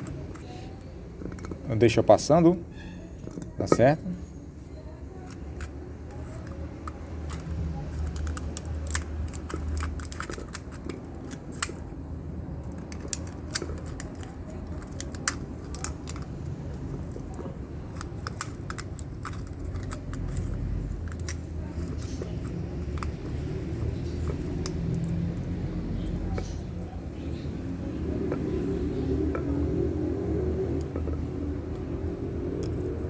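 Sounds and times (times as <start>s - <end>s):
metal parts and tools clicking: 0.0s - 12.0s, 12.6s - 33.0s.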